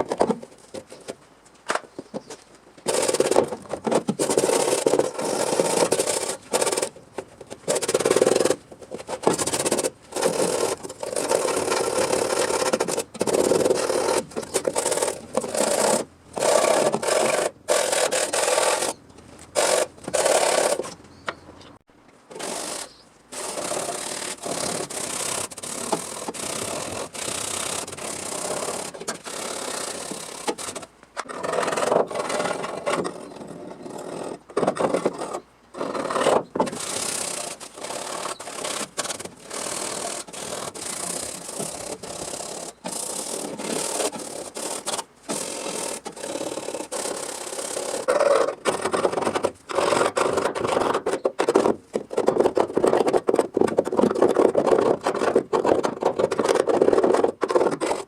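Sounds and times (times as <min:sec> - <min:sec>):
tool scraping sheet metal: 0:02.9 - 0:06.9, 0:07.6 - 0:21.0, 0:22.3 - 0:58.0.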